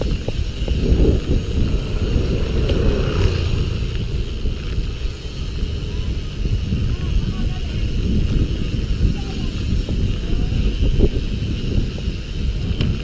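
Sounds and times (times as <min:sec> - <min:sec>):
bicycle tyres rumbling on rough road: 0:00.0 - 0:13.0
wind buffeting microphone: 0:00.0 - 0:13.0.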